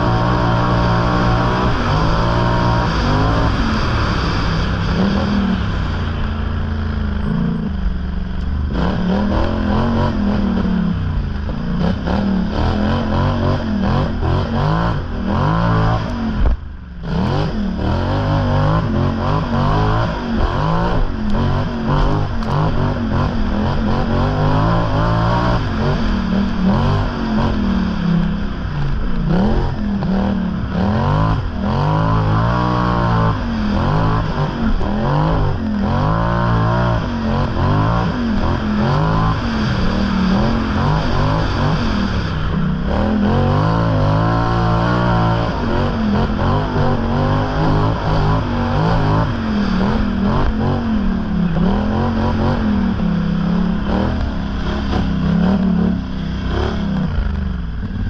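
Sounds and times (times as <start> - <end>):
low rumble: 0.0 - 58.0
vehicle engine revving: 0.0 - 58.0.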